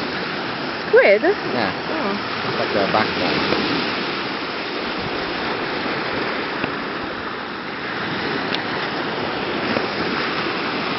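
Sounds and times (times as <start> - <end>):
small waves washing on shore: 0.0 - 10.9.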